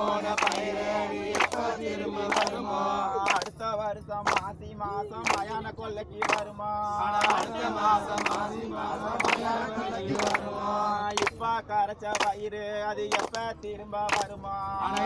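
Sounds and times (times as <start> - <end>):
voices singing devotional chant: 0.0 - 15.0.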